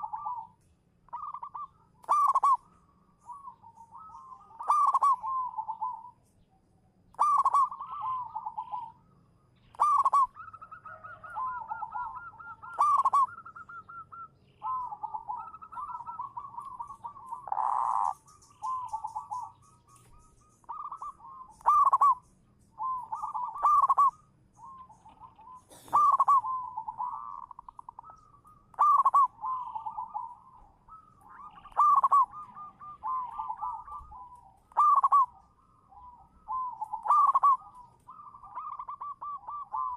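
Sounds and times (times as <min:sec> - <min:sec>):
doves cooing: 0:00.0 - 0:06.2, 0:07.0 - 0:39.9.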